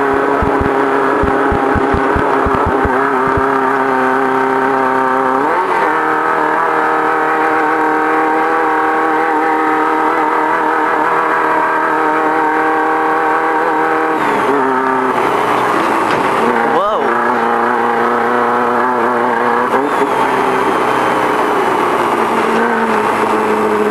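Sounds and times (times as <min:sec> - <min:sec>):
race car engine running hard: 0:00.0 - 0:23.9.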